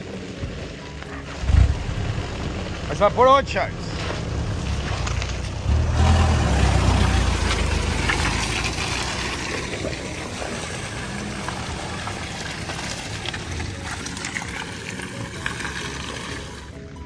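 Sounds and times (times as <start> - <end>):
vehicle engine rumble: 0.0 - 17.0
water splashing and sloshing: 0.0 - 17.0.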